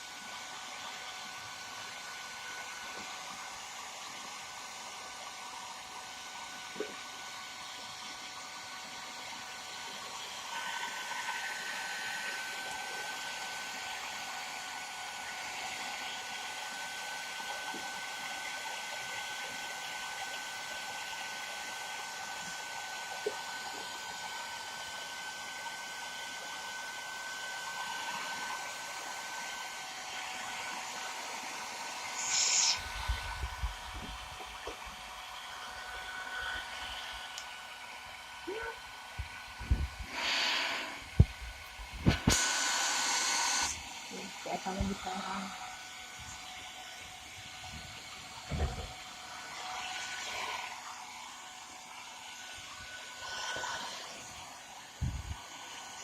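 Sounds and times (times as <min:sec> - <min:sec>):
hairdryer blowing with motor whine: 0:00.0 - 0:56.0.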